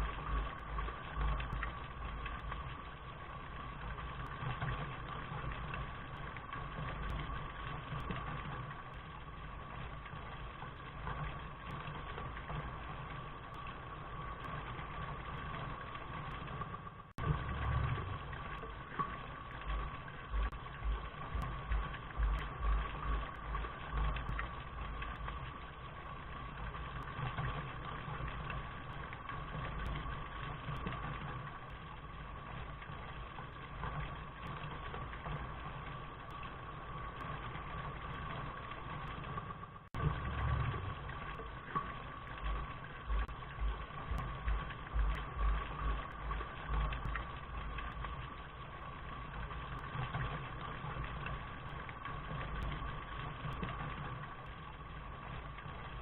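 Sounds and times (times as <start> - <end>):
low rumble: 0.0 - 56.0
steady rain: 0.0 - 56.0.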